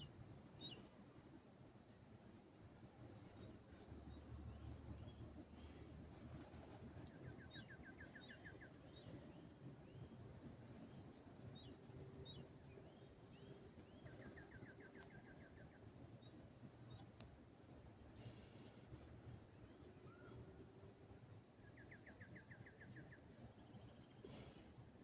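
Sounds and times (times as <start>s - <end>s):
low background rumble: 0.0s - 24.9s.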